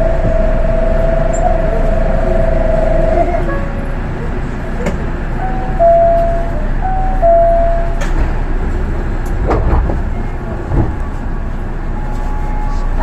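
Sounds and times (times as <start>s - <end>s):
monorail train rumbling: 0.0s - 13.0s.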